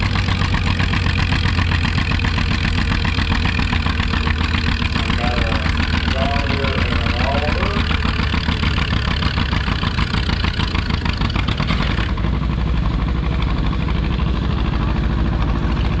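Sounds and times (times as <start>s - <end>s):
tractor engines idling: 0.0s - 16.0s.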